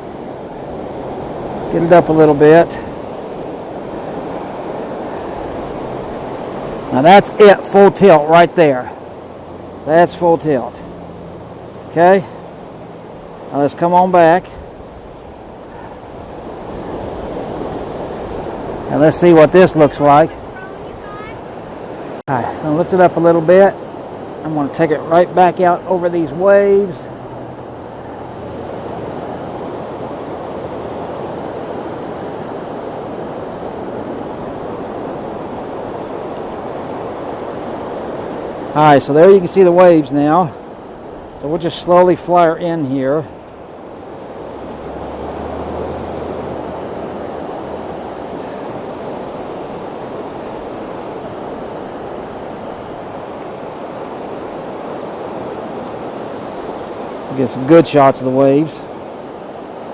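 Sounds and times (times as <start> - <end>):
beach surf: 0.0 - 59.9
wind: 0.0 - 59.9.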